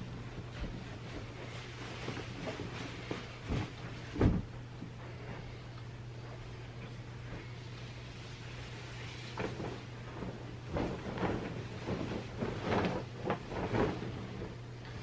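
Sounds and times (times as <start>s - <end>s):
fabric swishing and flapping: 0.0s - 15.0s
low steady hum: 0.0s - 15.0s.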